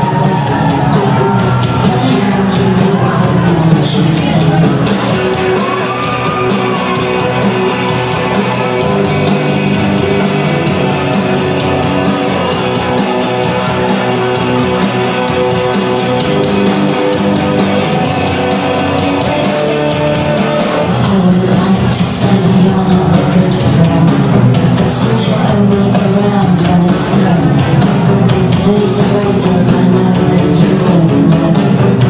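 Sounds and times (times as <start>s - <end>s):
loud rock music with guitar: 0.0s - 32.0s.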